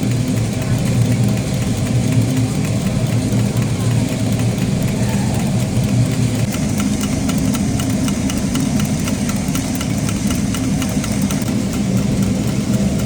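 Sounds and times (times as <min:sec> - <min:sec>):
factory machinery humming: 0:00.0 - 0:13.0
regular light ticking: 0:00.0 - 0:13.0.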